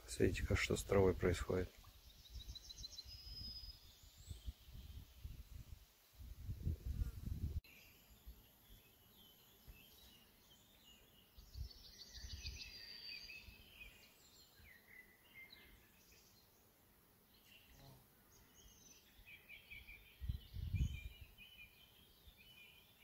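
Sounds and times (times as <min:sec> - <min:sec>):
small birds chirping: 0:00.0 - 0:05.8, 0:06.6 - 0:23.0.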